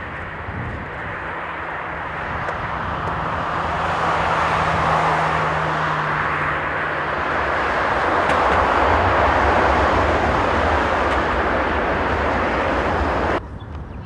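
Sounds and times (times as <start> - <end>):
jet engine roar: 0.0 - 13.5.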